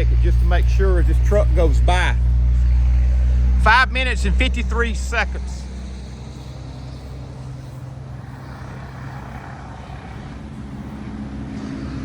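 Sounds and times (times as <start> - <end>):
low traffic rumble: 0.0 - 12.0
truck engine droning: 0.0 - 12.0.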